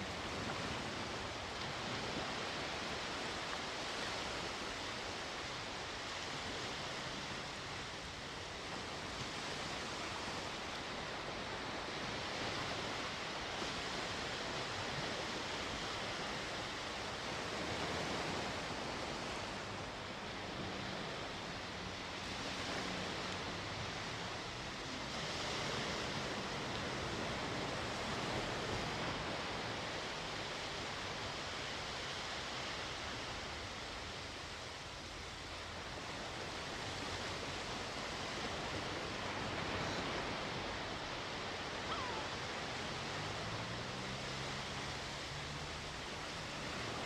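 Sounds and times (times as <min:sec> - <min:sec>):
sea waves washing onto shore: 0:00.0 - 0:47.0.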